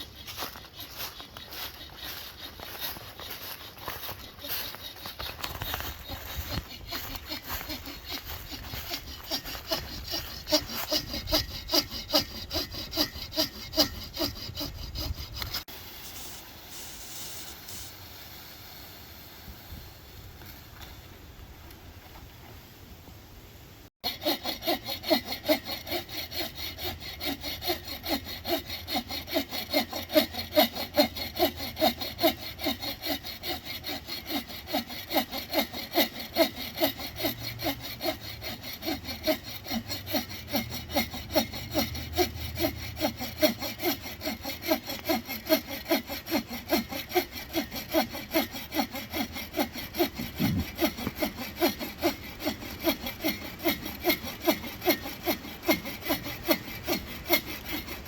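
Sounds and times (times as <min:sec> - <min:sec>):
hand saw cutting wood: 0:00.0 - 0:18.2, 0:24.0 - 0:58.0.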